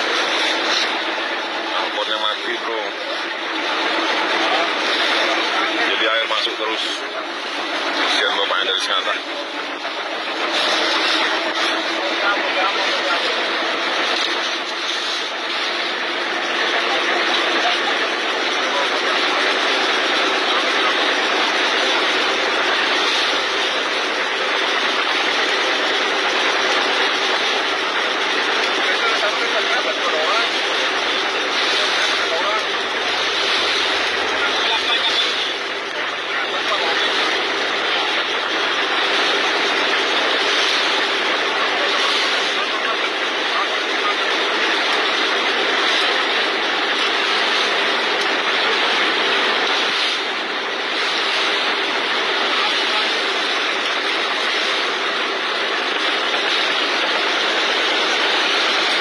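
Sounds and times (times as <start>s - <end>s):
boat engine running: 0.0s - 59.0s
wind and water rushing: 0.0s - 59.0s.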